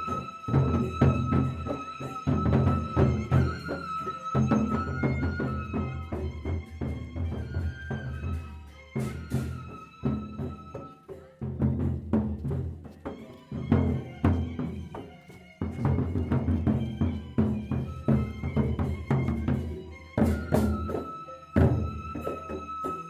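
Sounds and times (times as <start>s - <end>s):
large barrel drums beating: 0.0s - 23.0s.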